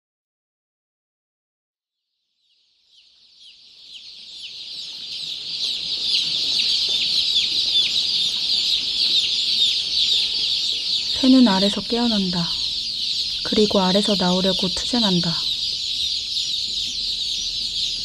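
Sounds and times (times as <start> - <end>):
baby chicks peeping: 2.4 - 18.0.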